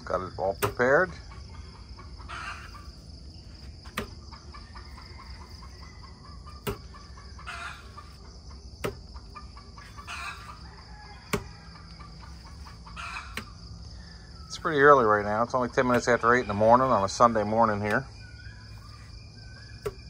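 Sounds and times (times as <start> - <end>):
high drone of insects: 0.0 - 20.0
hen clucking: 0.7 - 3.2, 3.9 - 18.1.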